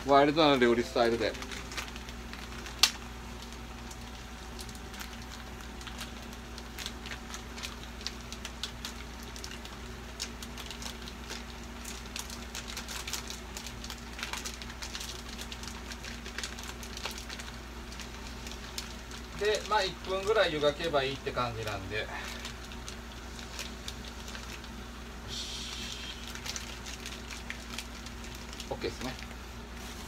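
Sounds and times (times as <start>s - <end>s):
food crackling on stove: 0.0s - 30.0s.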